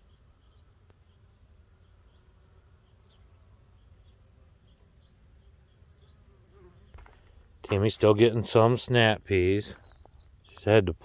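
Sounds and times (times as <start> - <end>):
insect chirping: 0.0 - 7.7, 9.7 - 11.0.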